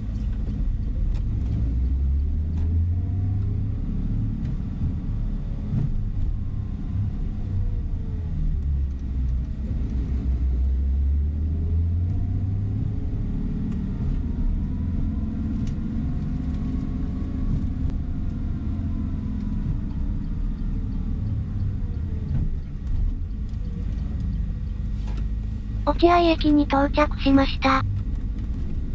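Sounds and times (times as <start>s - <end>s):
bus engine and tyres rumbling: 0.0s - 28.9s.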